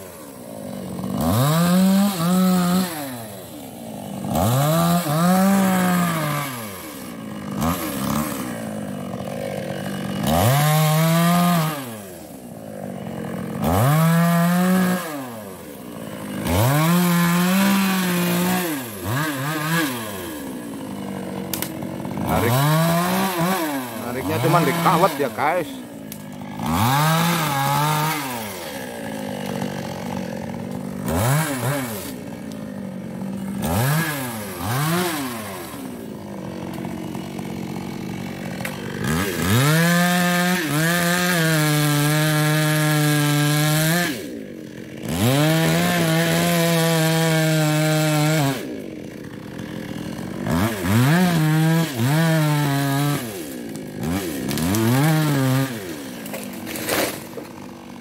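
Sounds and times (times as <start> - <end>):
chainsaw revving: 0.0 - 58.0.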